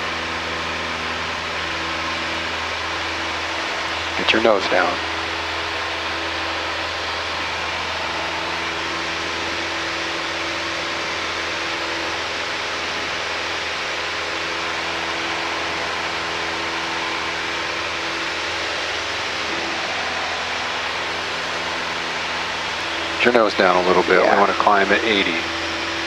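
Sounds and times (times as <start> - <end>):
airplane cockpit engine drone: 0.0 - 26.0.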